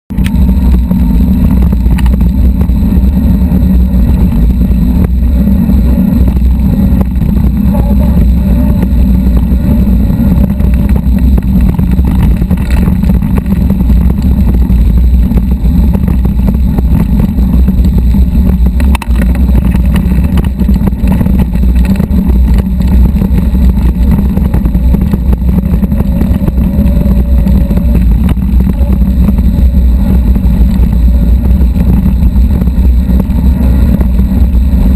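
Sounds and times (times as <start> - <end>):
wind on microphone: 0.1 - 34.9.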